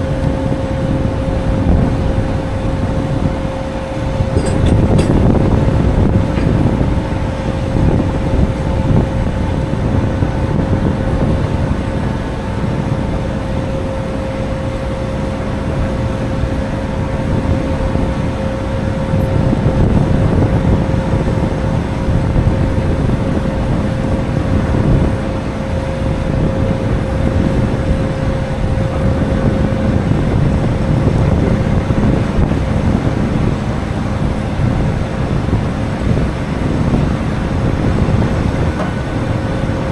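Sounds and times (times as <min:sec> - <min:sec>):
heavy vehicle engine rumbling: 0:00.0 - 0:39.9.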